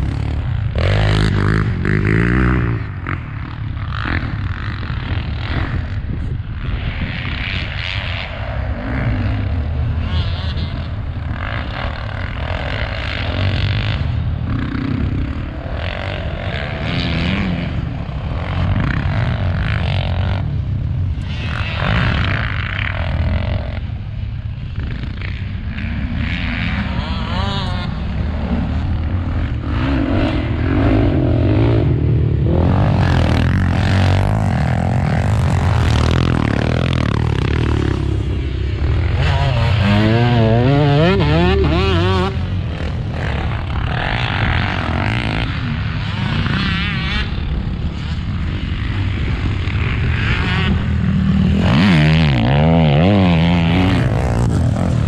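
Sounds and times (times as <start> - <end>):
off-road engine revving: 0.0 - 24.0, 24.7 - 55.0.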